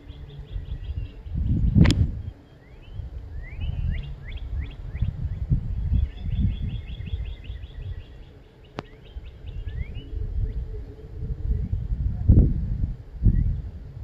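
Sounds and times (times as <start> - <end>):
songbirds chirping and trilling: 0.0 - 14.0
wind rumble on microphone: 0.0 - 14.0.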